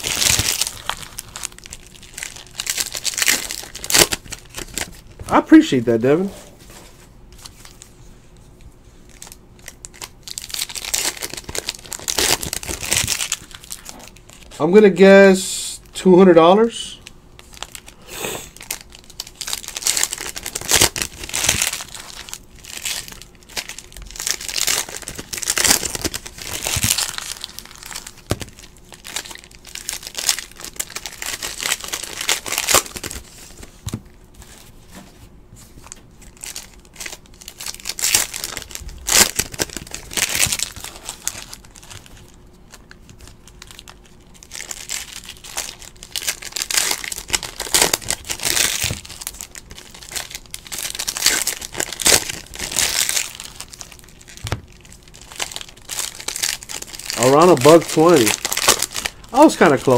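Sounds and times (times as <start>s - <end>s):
wrapper crinkling and tearing: 0.0s - 5.8s, 9.0s - 14.6s, 17.0s - 34.7s, 35.7s - 59.9s.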